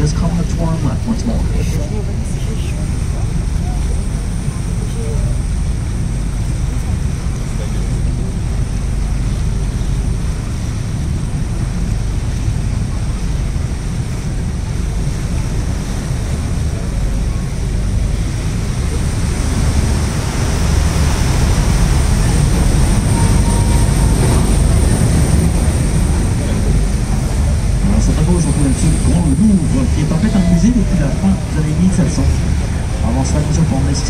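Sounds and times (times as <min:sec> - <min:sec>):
boat engine rumbling: 0:00.0 - 0:34.0.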